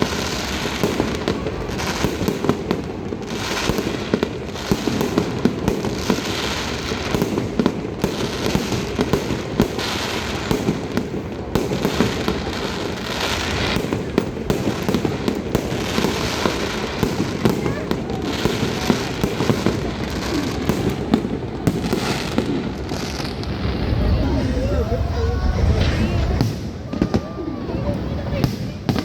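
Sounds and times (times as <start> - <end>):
fireworks popping and banging: 0.0 - 29.0.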